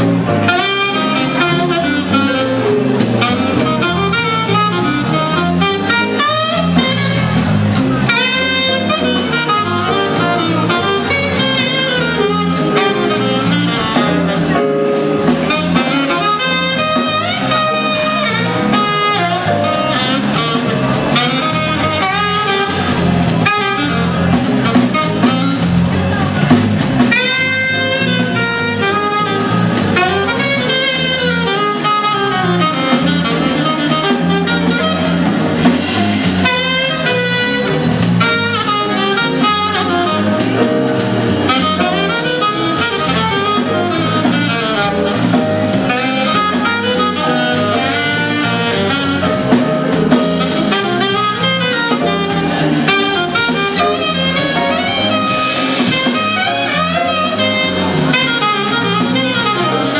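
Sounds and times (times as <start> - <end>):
alto saxophone jazz solo: 0.0 - 59.9
big band rhythm section: 0.0 - 59.9.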